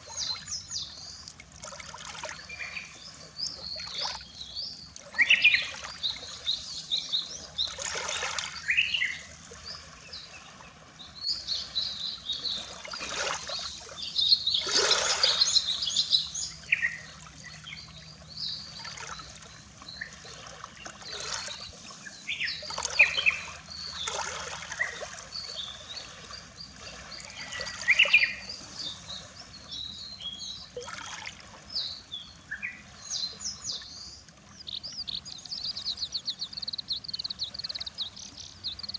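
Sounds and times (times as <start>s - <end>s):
small birds calling: 0.0s - 38.9s
small waves splashing on shore: 0.0s - 38.9s.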